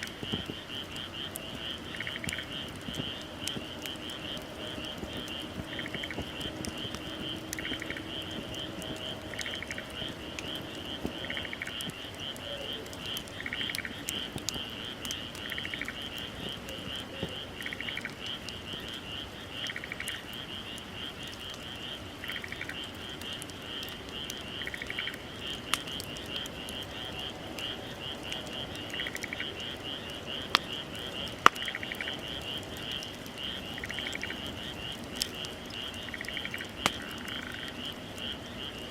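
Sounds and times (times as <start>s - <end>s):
bonfire pops: 0.0s - 38.9s
frogs trilling: 0.0s - 38.9s.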